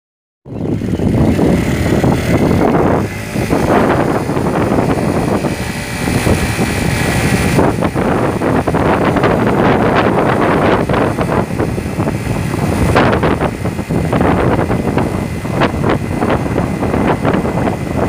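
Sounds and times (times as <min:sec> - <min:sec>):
motorcycle engine running: 0:00.5 - 0:18.0
wind buffeting microphone: 0:00.5 - 0:18.0.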